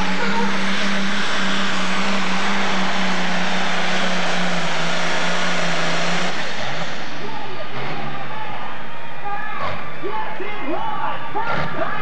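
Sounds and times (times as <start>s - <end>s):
tractor engine running under full load: 0.0s - 10.2s.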